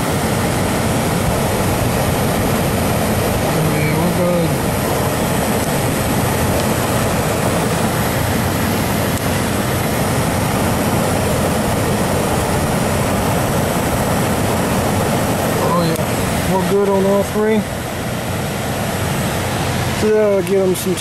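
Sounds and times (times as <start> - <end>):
air handler blower rushing: 0.0 - 21.0.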